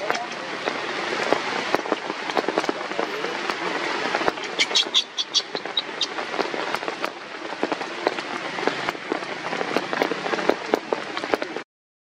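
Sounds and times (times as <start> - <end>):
rain pattering on leaves: 0.0 - 11.6.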